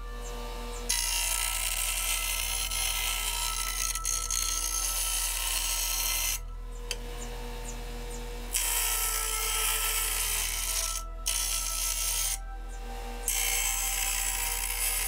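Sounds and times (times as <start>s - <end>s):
metal grinding on a wheel: 0.0s - 7.8s, 8.5s - 12.4s, 13.2s - 15.0s
grinder motor humming: 0.0s - 15.0s.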